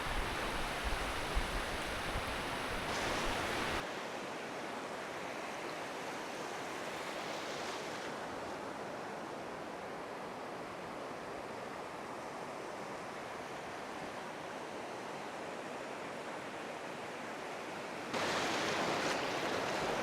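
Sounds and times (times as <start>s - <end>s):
small waves breaking on sand: 0.0s - 20.0s.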